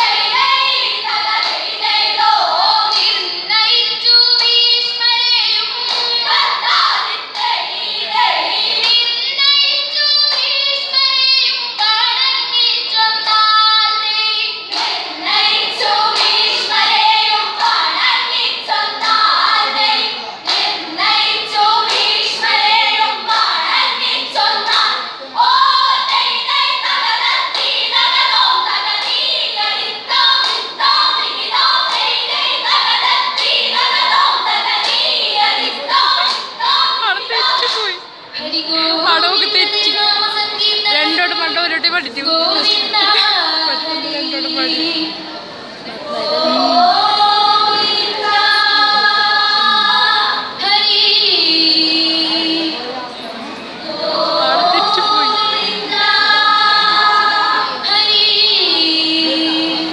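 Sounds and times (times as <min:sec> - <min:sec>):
girls singing in chorus: 0:00.0 - 0:59.9.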